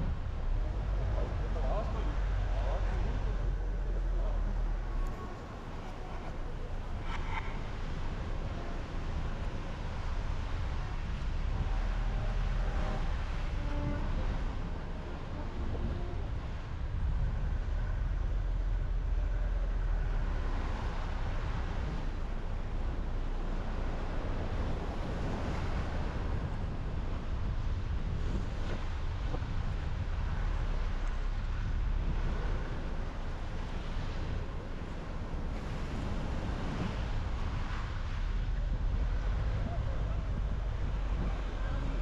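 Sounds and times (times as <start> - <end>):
road and tyre noise: 0.0 - 42.0.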